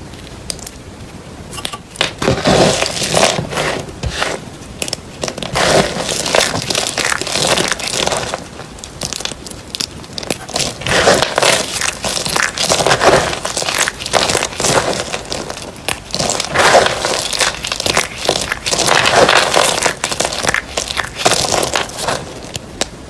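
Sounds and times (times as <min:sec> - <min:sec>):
blade crunching through dry soap: 0:02.0 - 0:23.0.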